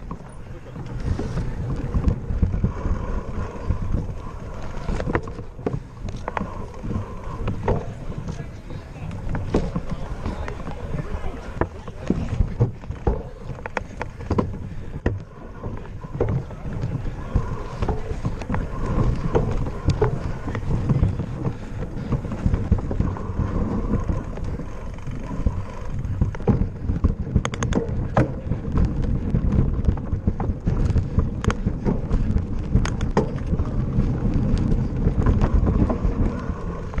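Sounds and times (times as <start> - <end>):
bike clicks and knocks: 0.0 - 37.0
wind buffeting microphone: 0.0 - 37.0.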